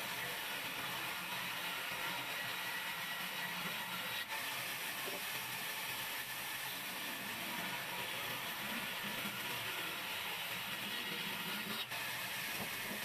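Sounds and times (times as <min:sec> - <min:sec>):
band saw cutting wood: 0:00.0 - 0:13.0.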